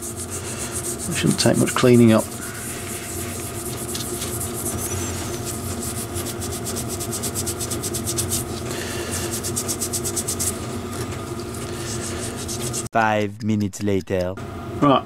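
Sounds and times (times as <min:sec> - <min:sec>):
abrasive pad scrubbing metal: 0:00.0 - 0:12.9
steady low hum: 0:00.0 - 0:15.0.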